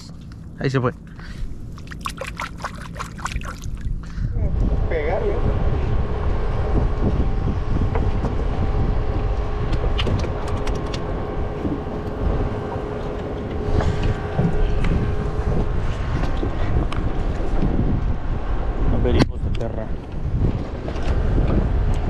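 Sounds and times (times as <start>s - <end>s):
faint hum: 0.0s - 22.0s
wind buffeting microphone: 1.2s - 22.0s.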